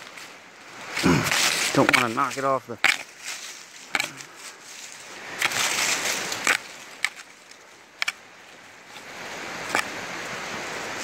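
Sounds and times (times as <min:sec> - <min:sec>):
digging in dry leaves and soil: 0:00.0 - 0:11.0.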